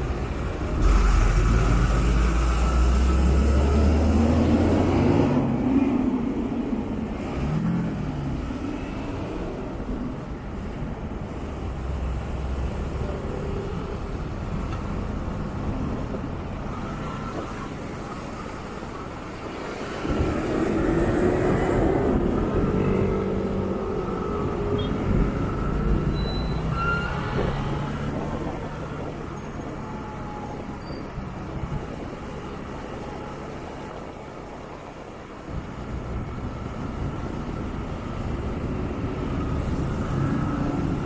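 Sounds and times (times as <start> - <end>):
traffic and road noise: 0.0 - 41.0.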